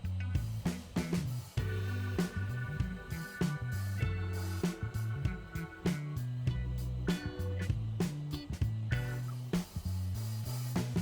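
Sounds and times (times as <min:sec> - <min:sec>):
upbeat funk music: 0:00.0 - 0:11.0.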